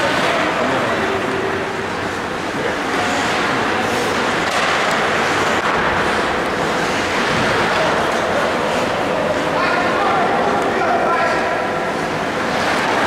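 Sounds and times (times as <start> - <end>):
ice hockey rink noise: 0.0 - 13.0.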